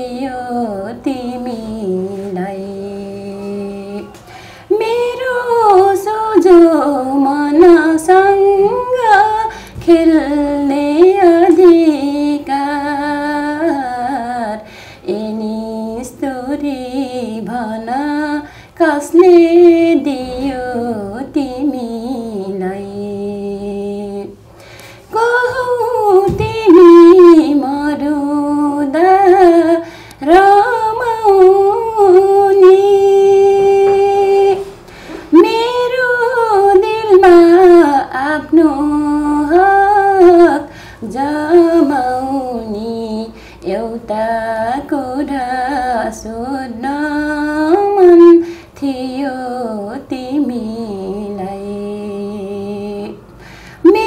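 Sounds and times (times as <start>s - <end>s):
woman singing unaccompanied: 0.0s - 54.0s.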